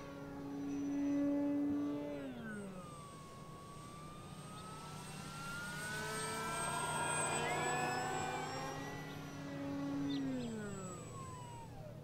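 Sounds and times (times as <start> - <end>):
model plane motor buzzing: 0.0 - 12.0.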